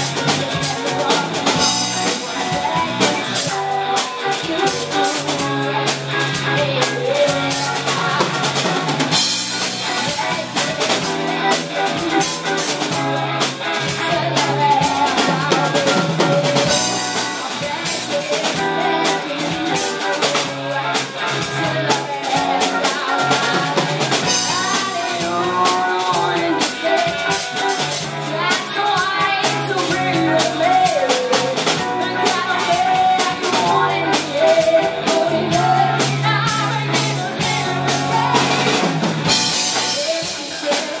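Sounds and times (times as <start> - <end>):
drum kit beat: 0.0 - 41.0
live band playing: 0.0 - 41.0
woman singing: 0.0 - 41.0.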